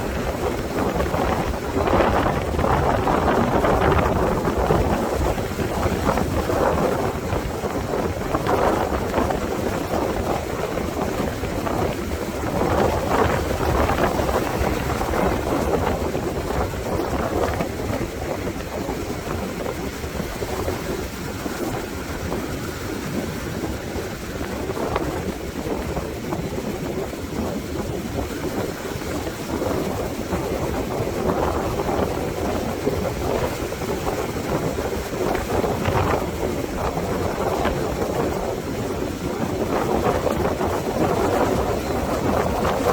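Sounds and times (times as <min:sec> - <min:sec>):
ocean surf breaking: 0:00.0 - 0:42.9
wind buffeting microphone: 0:00.0 - 0:42.9.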